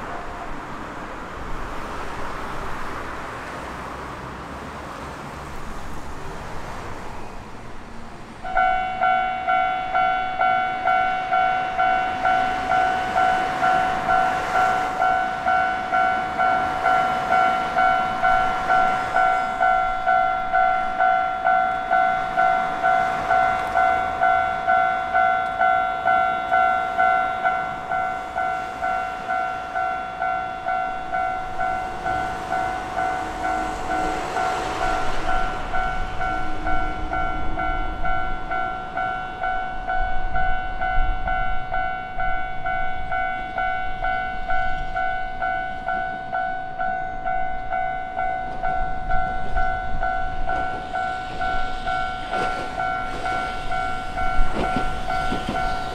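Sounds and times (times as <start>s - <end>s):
railroad crossing bell dinging: 8.4s - 55.9s.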